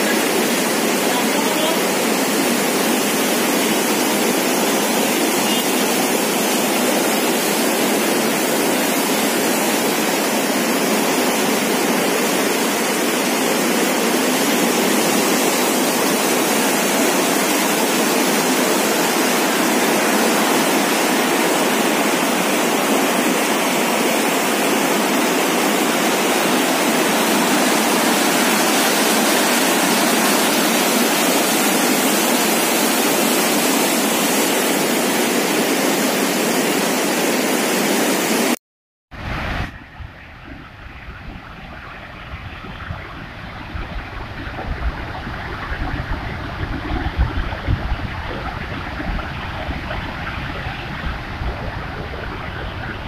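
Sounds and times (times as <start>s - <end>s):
floodwater gushing through sluice: 0.0s - 38.6s, 40.2s - 53.0s.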